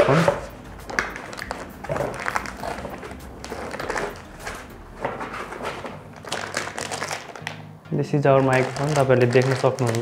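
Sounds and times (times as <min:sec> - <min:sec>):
packaging rustling: 0:00.0 - 0:07.6, 0:08.2 - 0:10.0.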